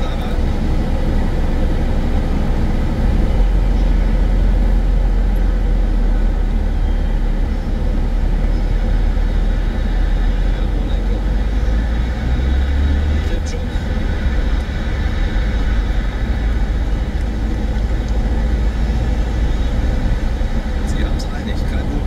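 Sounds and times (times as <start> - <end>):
car road and engine noise: 0.0 - 22.0
deep low rumble: 0.0 - 22.0.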